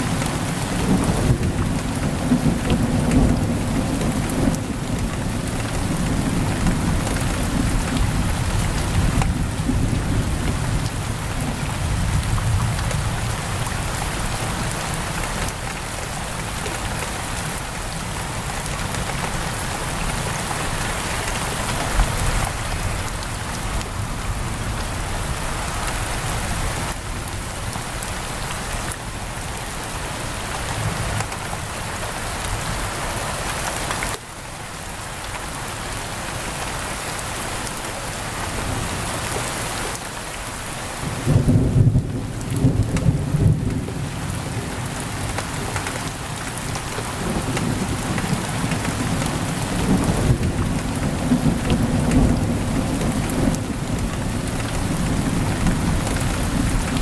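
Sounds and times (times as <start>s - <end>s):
heavy rain on a window: 0.0s - 57.0s.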